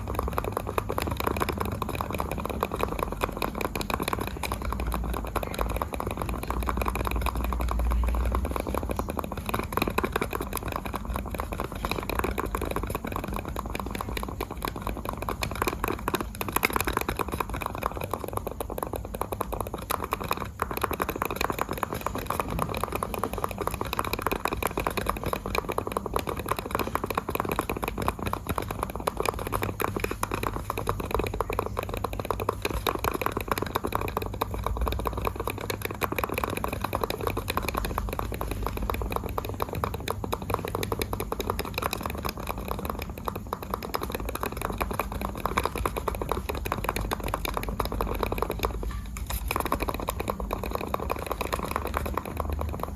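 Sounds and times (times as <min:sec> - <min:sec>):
mouse buttons clicking rapidly: 0:00.0 - 0:52.9.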